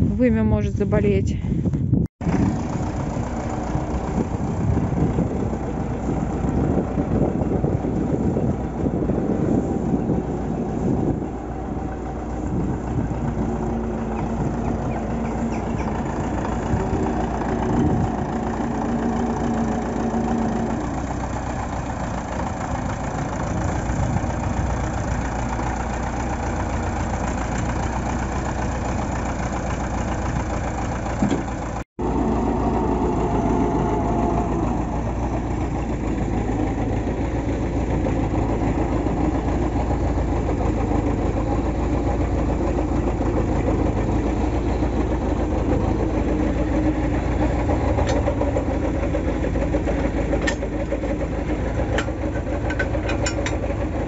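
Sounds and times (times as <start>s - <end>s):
tractor diesel engine idling: 0.0s - 54.0s.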